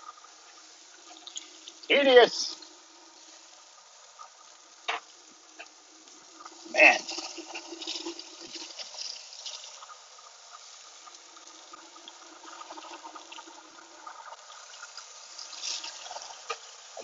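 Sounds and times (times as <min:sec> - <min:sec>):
chicken wings sizzling on grill: 0:00.0 - 0:17.0.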